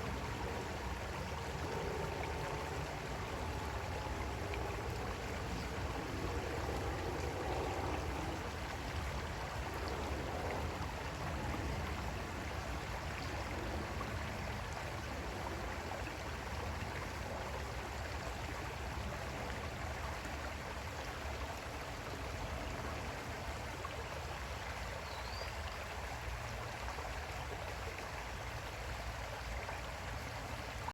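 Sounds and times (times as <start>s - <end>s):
creek water flowing: 0.0s - 30.9s.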